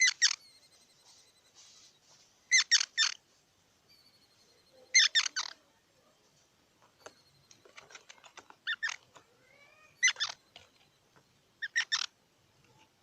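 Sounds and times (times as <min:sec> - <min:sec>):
squirrel chirping: 0:00.0 - 0:01.8, 0:02.5 - 0:03.2, 0:03.9 - 0:05.7, 0:06.8 - 0:12.9.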